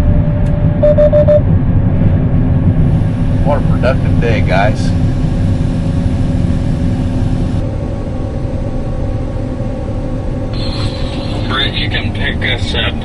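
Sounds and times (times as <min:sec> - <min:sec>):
combine harvester engine hum: 0:00.0 - 0:13.0.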